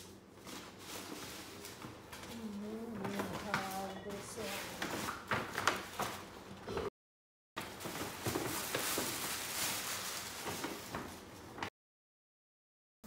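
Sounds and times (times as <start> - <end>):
paper rustling and crinkling: 0.0 - 6.4, 7.6 - 11.7.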